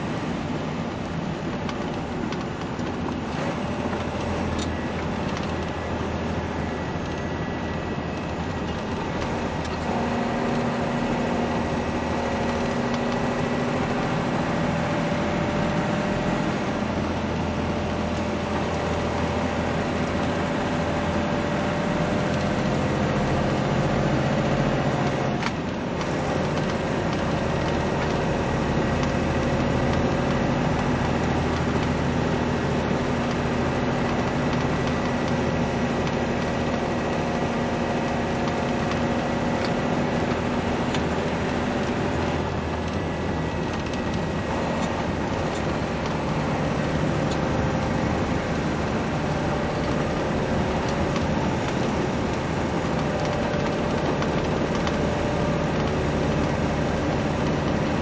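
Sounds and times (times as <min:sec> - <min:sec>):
vehicle engine drone: 0:00.0 - 0:58.0.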